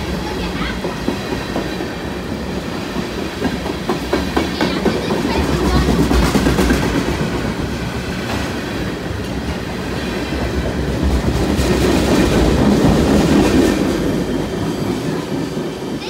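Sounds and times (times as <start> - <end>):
freight train rolling past: 0.0 - 16.0
wheels clicking over rail joints: 0.0 - 16.0.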